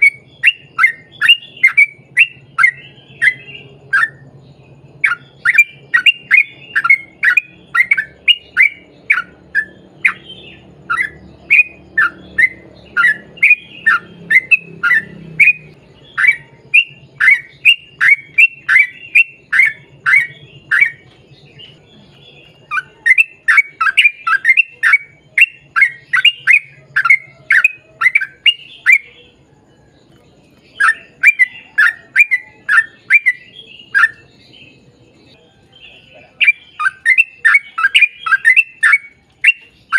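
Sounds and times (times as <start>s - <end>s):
bird calling in rapid falling notes: 0.0s - 39.9s.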